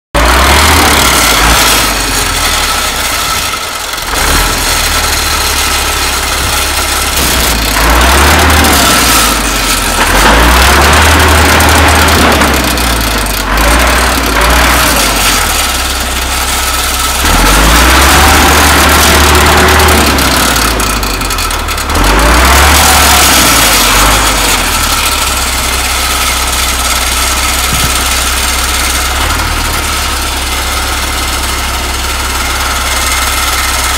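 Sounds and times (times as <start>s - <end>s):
tractor diesel engine revving: 0.1s - 33.9s.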